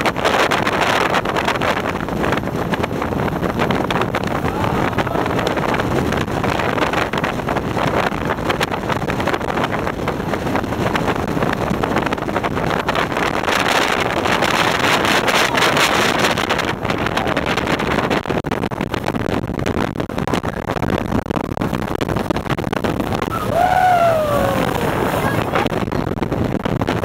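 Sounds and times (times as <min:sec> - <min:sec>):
boat engine and water rushing: 0:00.0 - 0:27.0
wind buffeting microphone: 0:00.0 - 0:27.0.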